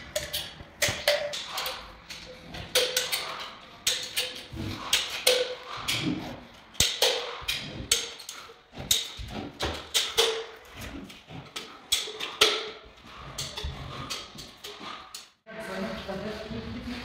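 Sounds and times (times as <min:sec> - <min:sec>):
tools knocking and scraping tile: 0:00.0 - 0:15.4.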